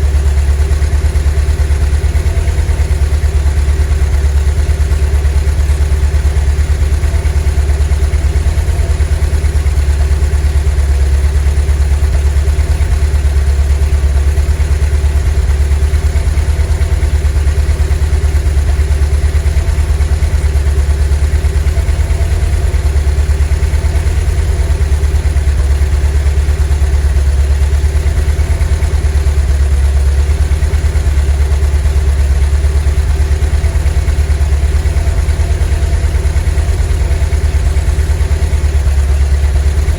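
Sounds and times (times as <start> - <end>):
van engine throbbing: 0.0 - 39.9.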